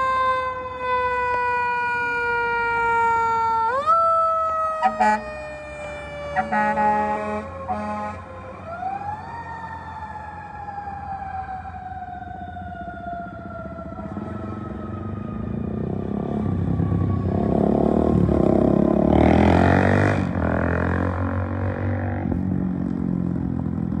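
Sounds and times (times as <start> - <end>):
vehicle engine and traffic noise: 0.0 - 24.0.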